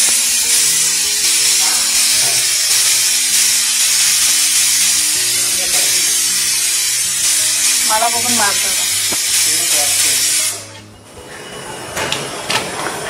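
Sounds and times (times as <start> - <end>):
steam hissing from covered pan: 0.0 - 10.8.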